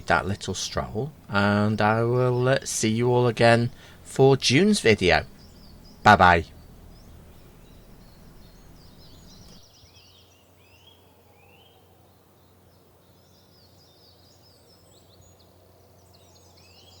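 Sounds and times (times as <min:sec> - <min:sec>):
birds singing: 0:00.0 - 0:17.0
low background noise: 0:00.0 - 0:17.0.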